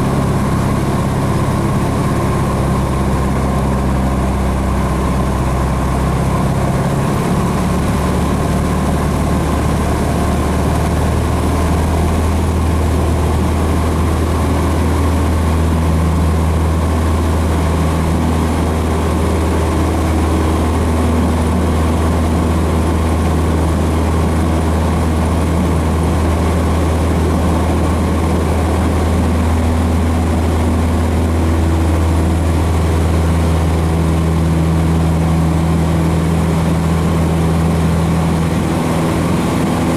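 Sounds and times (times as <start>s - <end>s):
piston aircraft engine and propeller: 0.0s - 39.9s.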